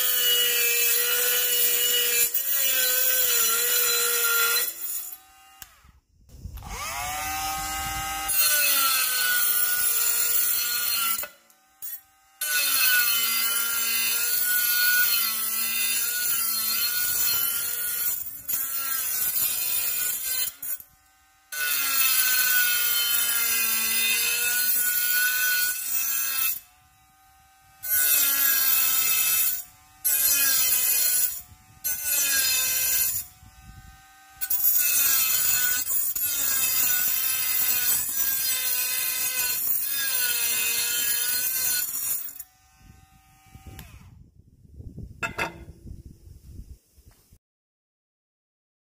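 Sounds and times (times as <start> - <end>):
grinding rasp: 0.0 - 5.3, 6.7 - 44.0
angle grinder motor whine: 0.0 - 25.5, 26.4 - 44.2.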